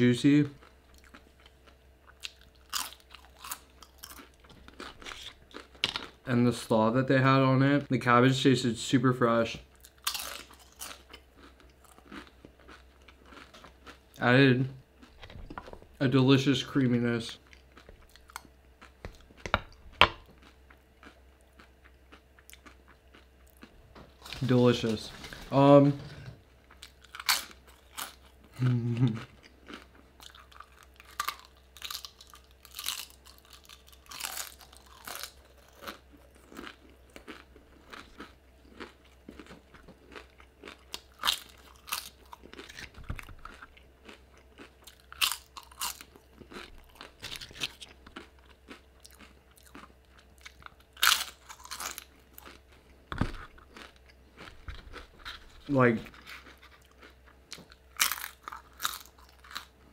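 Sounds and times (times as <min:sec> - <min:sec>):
chewing crunchy chips: 0:00.1 - 0:06.7, 0:09.5 - 0:15.8, 0:16.4 - 0:25.2, 0:26.6 - 0:59.9.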